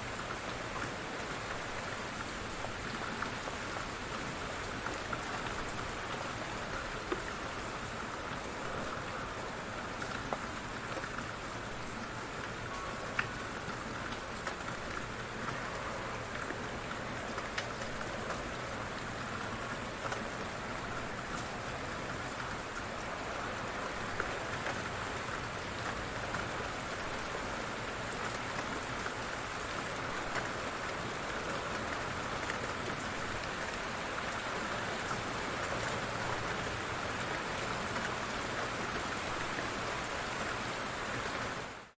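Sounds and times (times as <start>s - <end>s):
raindrops tapping on surfaces: 0.0s - 41.9s
light rain hiss: 0.0s - 42.0s.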